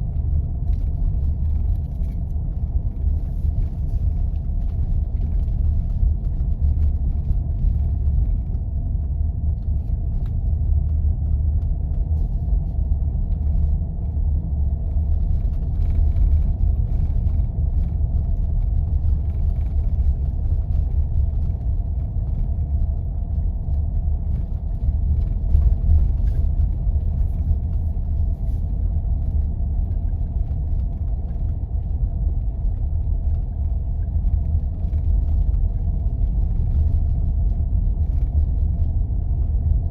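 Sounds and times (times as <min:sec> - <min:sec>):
low rumble of engine and tyres: 0:00.0 - 0:39.9.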